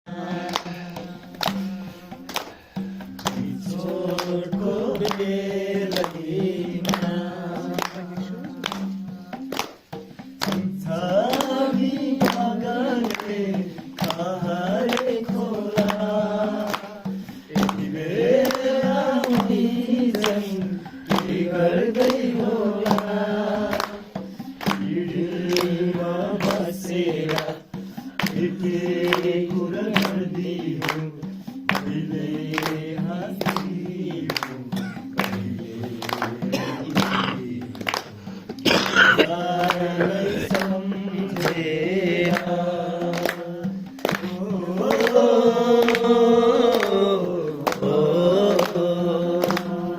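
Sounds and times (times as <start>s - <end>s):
sharp beat strokes: 0.1s - 49.9s
voices singing together: 0.1s - 49.9s.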